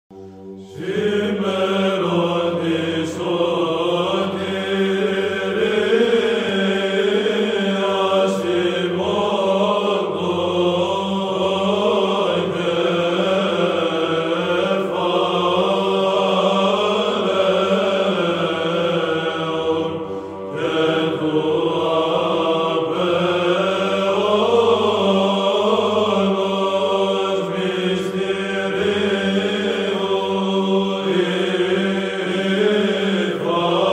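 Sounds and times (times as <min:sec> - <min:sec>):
low held vocal drone: 0:00.2 - 0:33.9
men chanting: 0:00.8 - 0:33.9.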